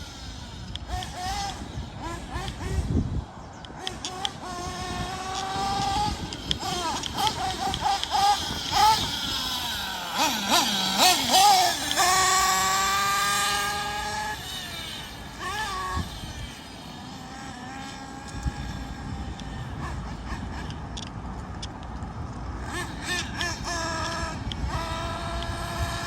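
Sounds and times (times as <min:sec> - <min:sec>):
model truck nitro engine revving: 0:00.0 - 0:21.1, 0:22.6 - 0:26.0.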